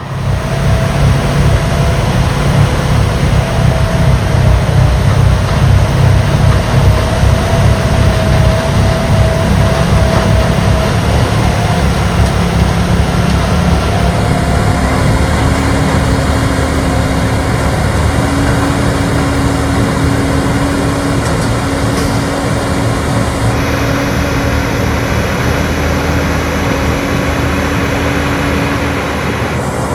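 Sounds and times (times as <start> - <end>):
engine rumble with whine: 0.0 - 29.9.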